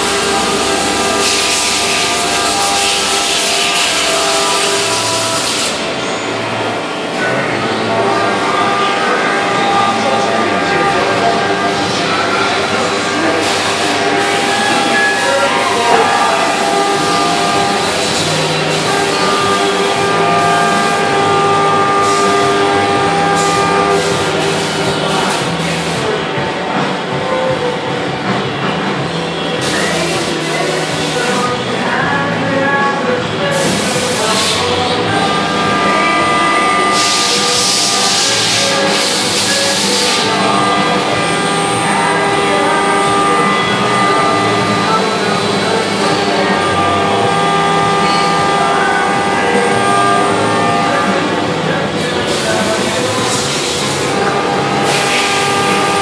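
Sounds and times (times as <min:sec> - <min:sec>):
machining center hiss: 0:00.0 - 0:26.3, 0:29.6 - 0:31.7, 0:33.4 - 0:56.0
steady machine tones: 0:00.0 - 0:56.0.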